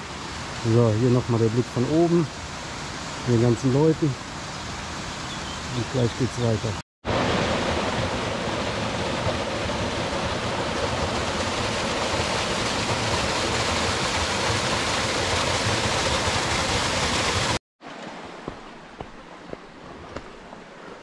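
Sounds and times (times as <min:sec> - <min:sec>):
stream cascading: 0:00.0 - 0:21.0.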